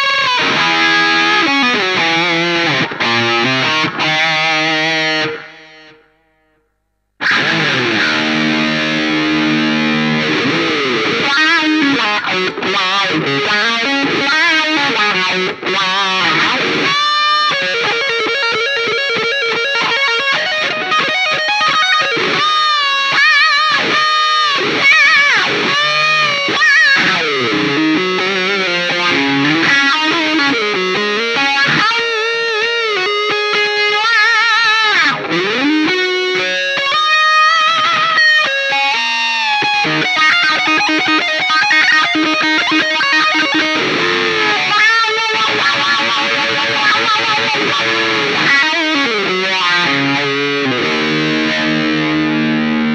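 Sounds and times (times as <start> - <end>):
electric guitar lead lines: 0.0 - 52.9.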